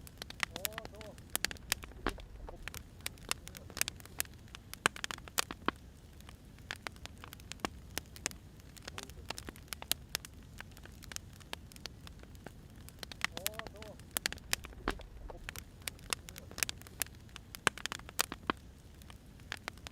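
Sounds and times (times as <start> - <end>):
firewood crackling and popping: 0.0 - 19.9.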